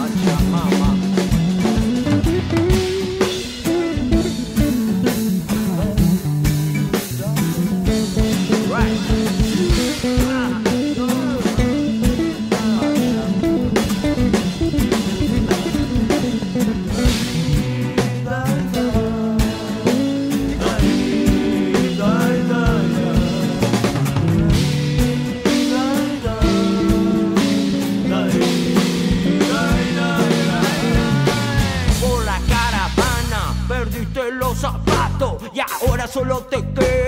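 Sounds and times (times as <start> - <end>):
bass guitar: 0.0 - 37.0
drum kit steady beat: 0.0 - 37.0
rock guitar with bent notes: 0.0 - 37.0.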